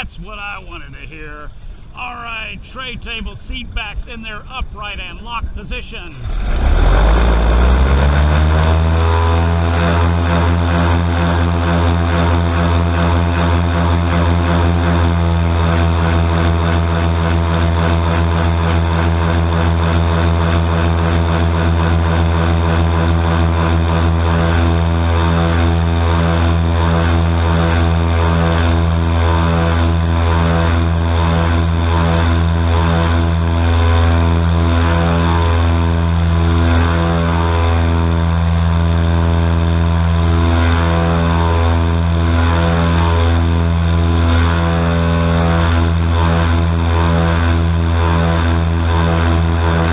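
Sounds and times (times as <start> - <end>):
airboat engine and propeller drone: 0.0 - 49.9.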